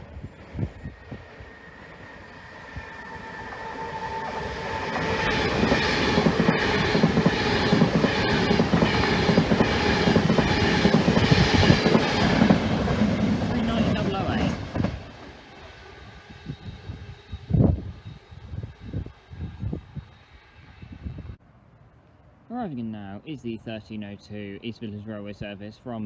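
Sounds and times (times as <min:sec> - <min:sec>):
passenger train passing: 0:00.0 - 0:25.6.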